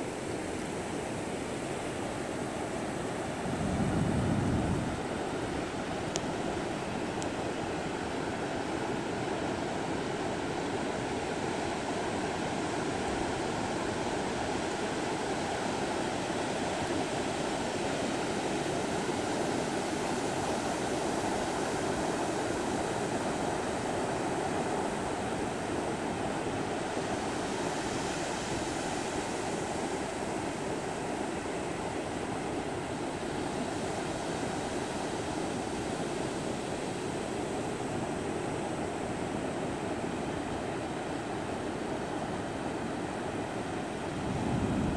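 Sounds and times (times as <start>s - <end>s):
wave wash hissing on sand: 0.0s - 44.9s.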